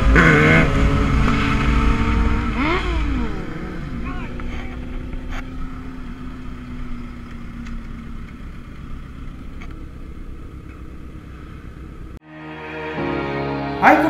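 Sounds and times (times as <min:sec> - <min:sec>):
motorcycle engine: 0:00.0 - 0:12.2.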